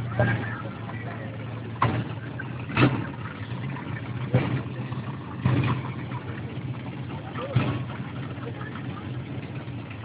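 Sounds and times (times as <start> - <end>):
engine revving: 0.0 - 10.0
vehicle engine humming: 0.0 - 10.0.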